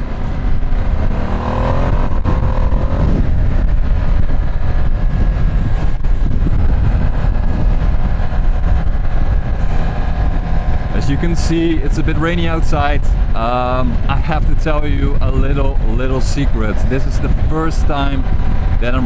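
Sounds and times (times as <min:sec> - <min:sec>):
motorcycle engine accelerating: 0:00.0 - 0:19.0
wind rushing at riding speed: 0:00.0 - 0:19.0.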